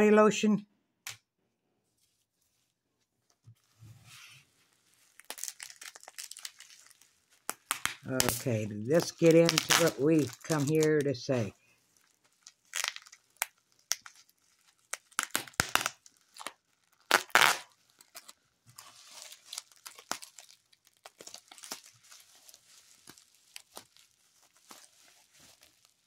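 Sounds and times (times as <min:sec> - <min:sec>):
bubble wrap crinkling: 0:02.0 - 0:26.0
plastic packaging ripping: 0:04.8 - 0:26.0.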